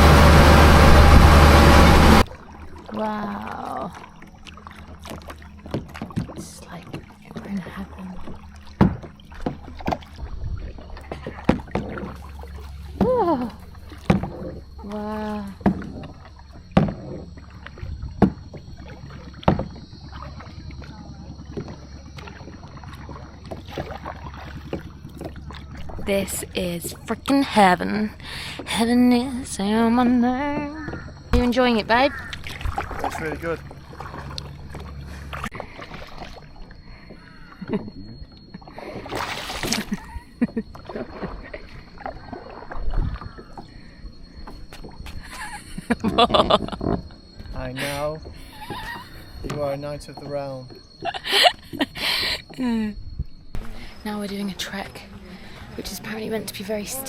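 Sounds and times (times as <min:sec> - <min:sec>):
boat engine rumble: 0:00.0 - 0:57.0
lake water splashing and sloshing: 0:00.0 - 0:57.0.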